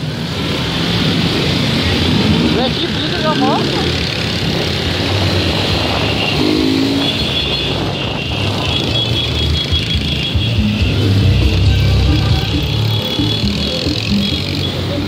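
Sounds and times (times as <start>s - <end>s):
continuous rushing noise: 0.0s - 15.0s
motorcycle engines running: 0.0s - 15.0s.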